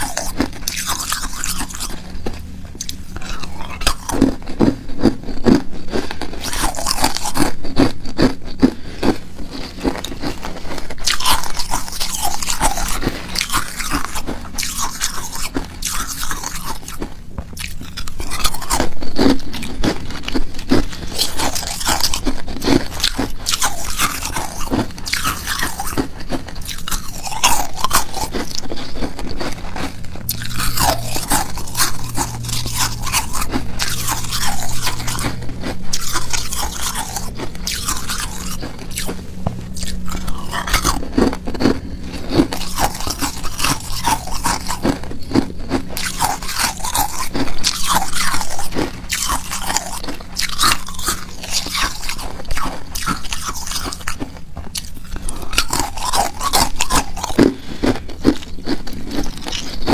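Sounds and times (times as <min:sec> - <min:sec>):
ice cubes crunching between teeth: 0:00.0 - 0:59.9.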